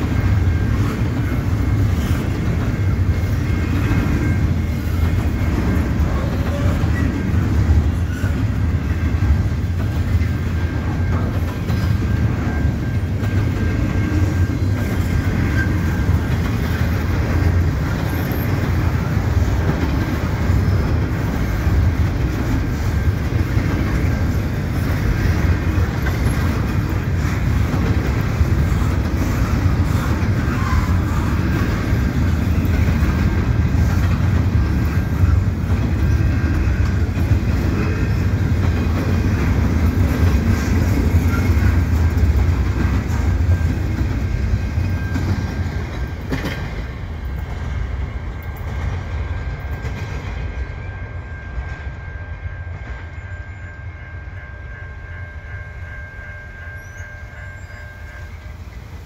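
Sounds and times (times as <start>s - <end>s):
wheel clatter over rail joints: 0.0s - 50.8s
train rumbling past: 0.0s - 59.0s.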